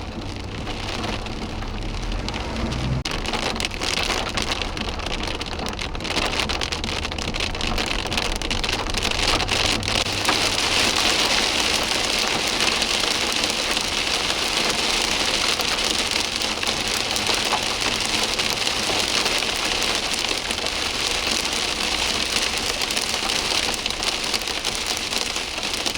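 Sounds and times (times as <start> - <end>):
heavy rain pouring: 0.0 - 25.9.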